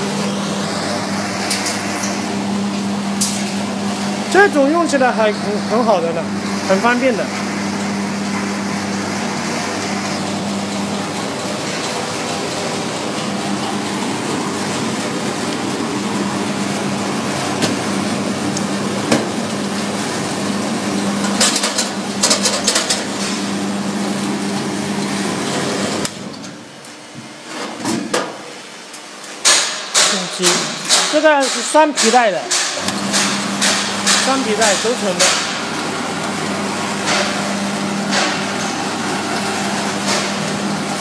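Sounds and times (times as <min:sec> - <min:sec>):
roasting machine whirring: 0:00.0 - 0:41.0.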